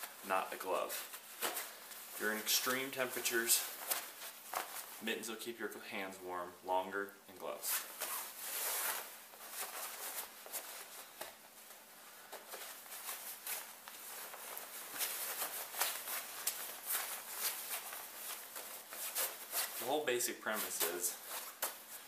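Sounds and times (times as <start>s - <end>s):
clothing fabric rustling: 0.0s - 5.8s, 7.4s - 22.0s.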